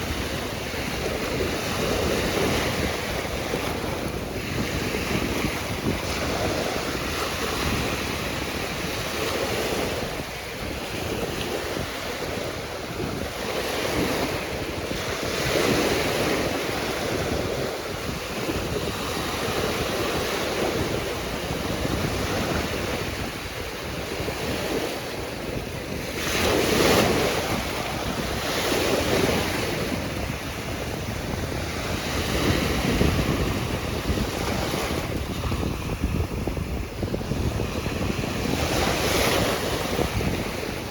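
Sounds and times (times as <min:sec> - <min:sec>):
waves breaking on shore: 0:00.0 - 0:40.9
wind buffeting microphone: 0:00.0 - 0:40.9.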